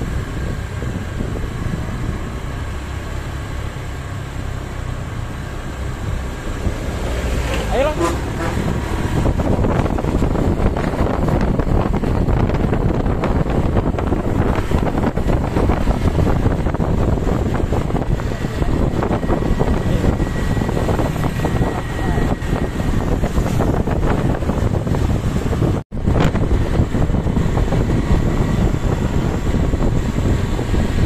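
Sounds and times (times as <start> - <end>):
vehicle and road noise: 0.0 - 31.0
wind buffeting microphone: 0.0 - 31.0.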